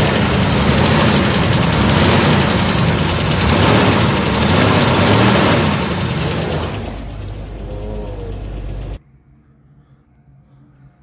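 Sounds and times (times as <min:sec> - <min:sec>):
rapid rattle: 0:00.0 - 0:09.0
toy electronic engine rumble: 0:00.0 - 0:09.0.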